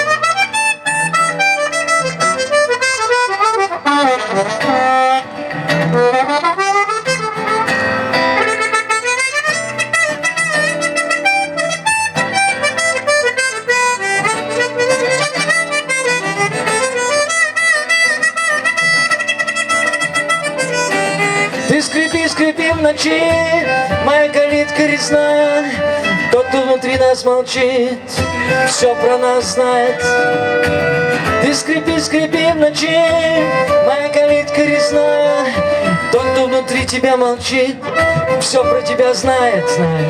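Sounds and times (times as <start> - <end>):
guitar accompaniment: 0.0 - 40.0
harmonica solo: 0.0 - 40.0.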